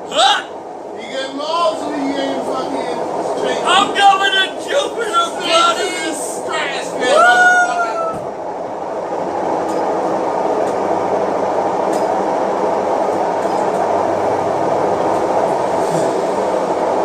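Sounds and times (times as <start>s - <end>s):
tumble dryer rumbling whir: 0.0s - 17.0s.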